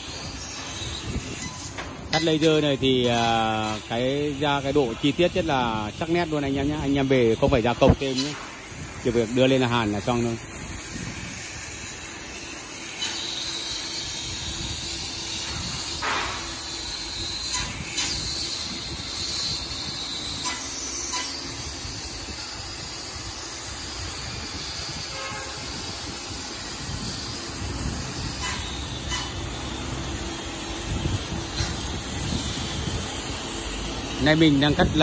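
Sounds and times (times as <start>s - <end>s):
laser cutter hissing: 0.0s - 35.0s.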